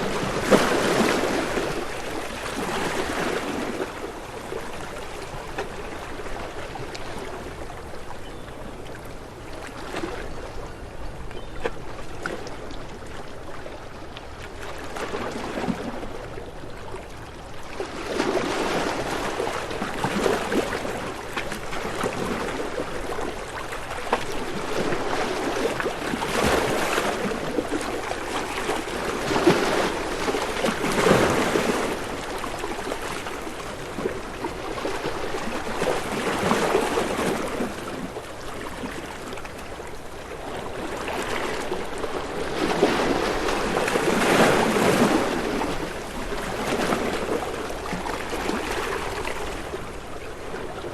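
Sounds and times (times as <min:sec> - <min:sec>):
waves washing in and out: 0:00.0 - 0:08.1, 0:11.9 - 0:50.9.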